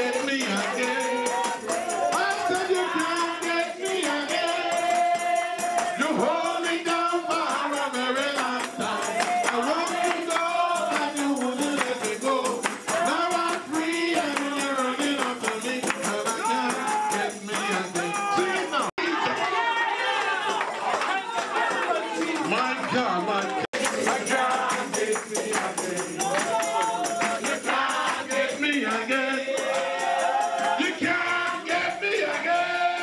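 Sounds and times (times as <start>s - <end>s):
congregation singing a worship song: 0.0s - 33.0s
percussion beat: 0.0s - 33.0s
rhythmic hand clapping: 0.0s - 33.0s.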